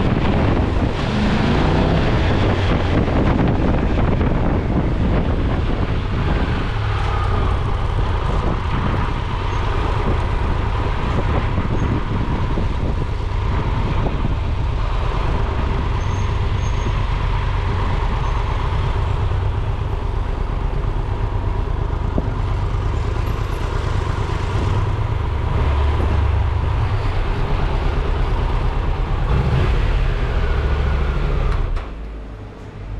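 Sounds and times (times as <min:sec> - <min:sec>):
vehicle engine low rumble: 0:00.0 - 0:32.9.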